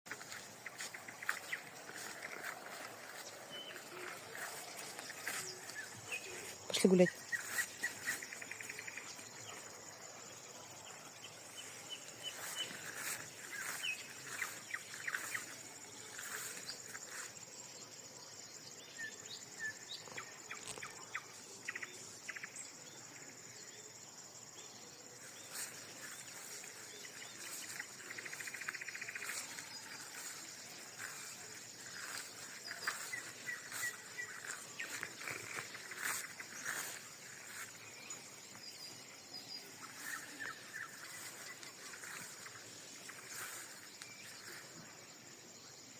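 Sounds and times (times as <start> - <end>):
birds chirping: 0.1 - 17.9, 25.1 - 45.9
high insect drone: 0.1 - 45.9.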